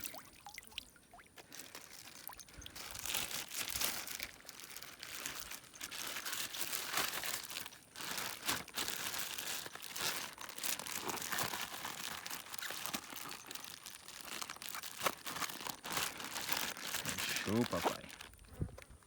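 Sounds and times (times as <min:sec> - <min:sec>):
crinkling and crunching: 0:01.4 - 0:19.0.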